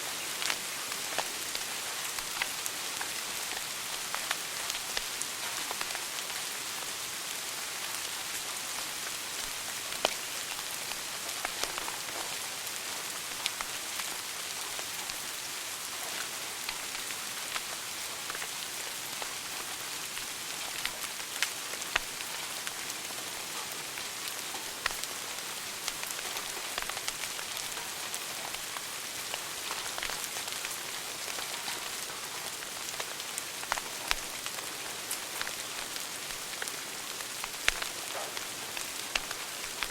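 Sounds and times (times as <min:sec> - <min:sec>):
wood fire hissing and crackling: 0:00.0 - 0:39.9.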